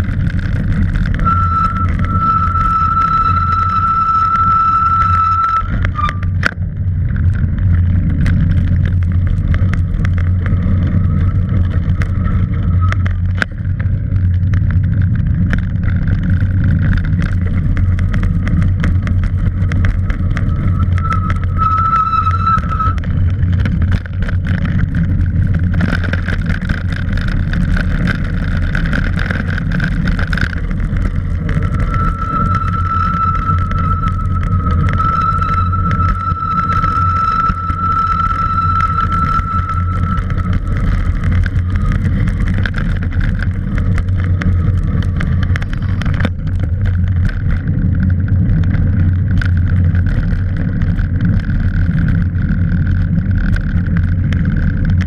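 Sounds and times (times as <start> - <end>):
high whine from bike: 0.0 - 55.0
tyres rolling on concrete: 0.0 - 55.0
wind on microphone: 0.0 - 55.0.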